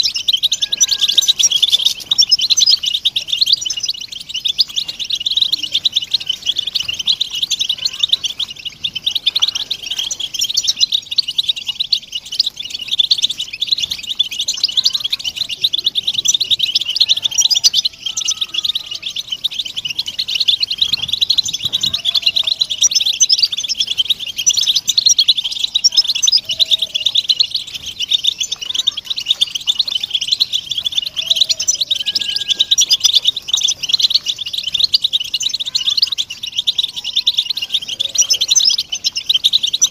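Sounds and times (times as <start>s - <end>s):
flock of finches twittering: 0.0s - 39.9s.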